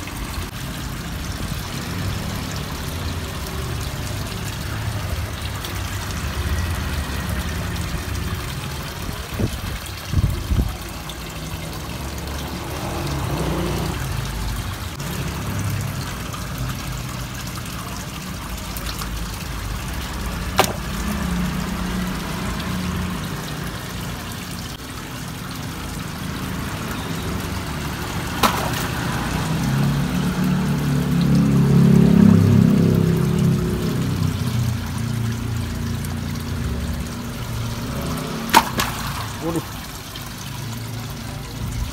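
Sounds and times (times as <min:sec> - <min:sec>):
water trickling in a pond: 0:00.0 - 0:41.9.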